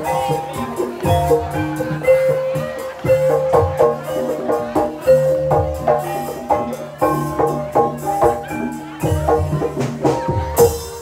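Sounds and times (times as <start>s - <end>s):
drum hits: 0.0s - 11.0s
mallet-struck tuned percussion: 0.0s - 11.0s.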